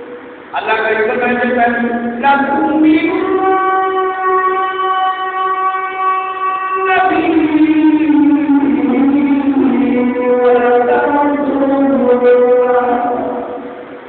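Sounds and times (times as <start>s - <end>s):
man chanting: 0.0s - 13.9s.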